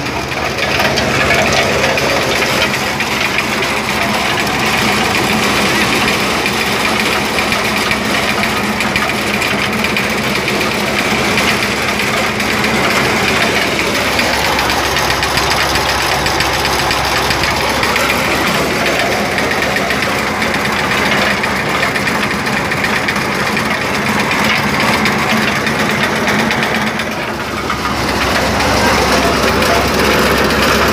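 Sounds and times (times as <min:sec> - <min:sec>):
corn sheller engine running: 0:00.0 - 0:30.9.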